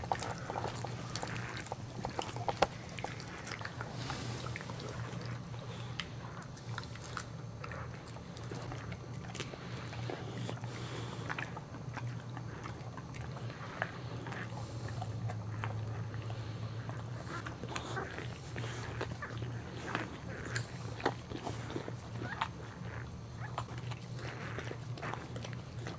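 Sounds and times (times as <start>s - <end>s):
dog licking puppy: 0.0s - 25.9s.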